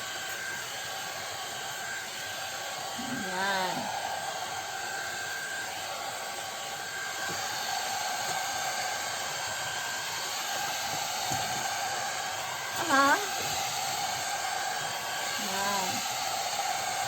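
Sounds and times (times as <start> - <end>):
hair dryer blowing air: 0.0 - 17.0.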